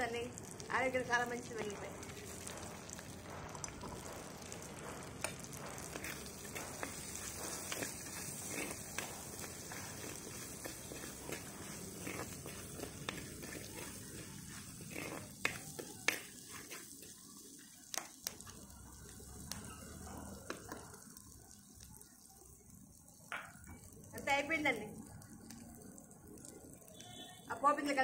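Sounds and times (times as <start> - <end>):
spices sizzling in hot oil: 0.0 - 28.0.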